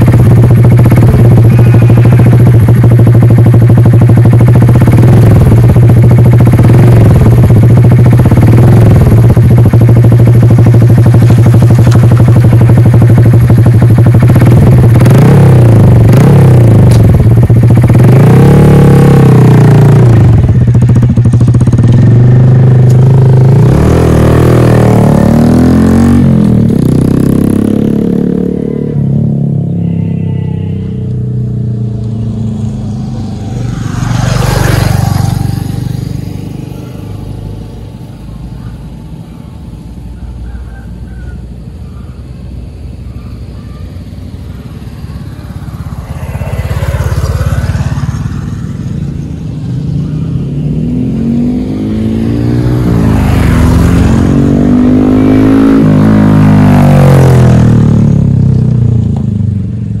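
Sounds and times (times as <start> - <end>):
motorcycles passing by: 0.0 - 60.0.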